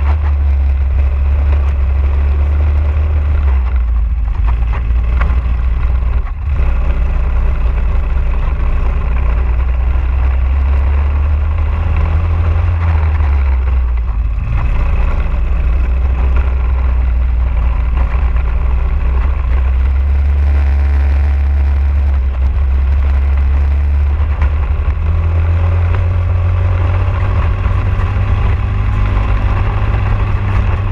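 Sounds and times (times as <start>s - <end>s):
kart engine running hard: 0.0s - 30.9s.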